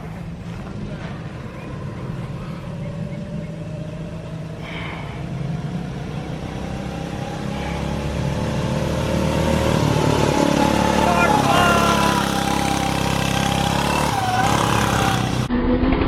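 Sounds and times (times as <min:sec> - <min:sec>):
small engine revving: 0:00.5 - 0:15.5.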